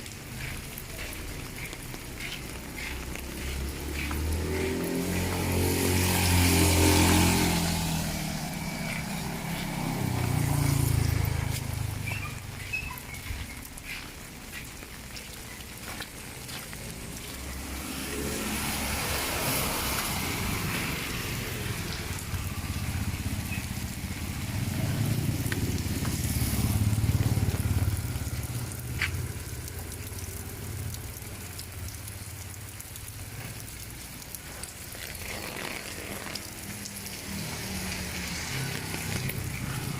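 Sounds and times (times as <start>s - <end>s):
motor vehicles passing: 0.0s - 39.9s
steady rain falling: 0.0s - 39.9s.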